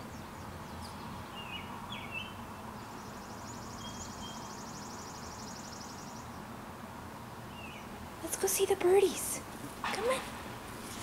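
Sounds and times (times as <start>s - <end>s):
low background noise: 0.0s - 11.0s
songbirds chirping: 0.0s - 11.0s.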